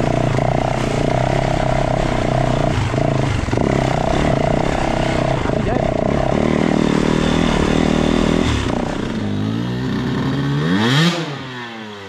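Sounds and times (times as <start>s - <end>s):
four-stroke motorbike running: 0.0s - 12.0s
two-stroke motorbike revving: 0.0s - 12.0s.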